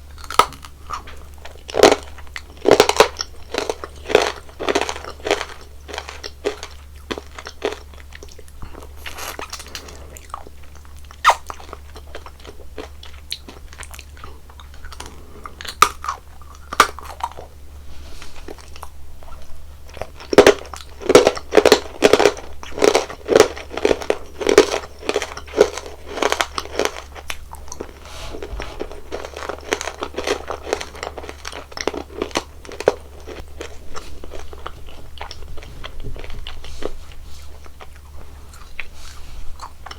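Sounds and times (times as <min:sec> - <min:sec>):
crunchy chewing of sweets: 0:00.0 - 0:39.9
faint low hum: 0:00.0 - 0:39.9.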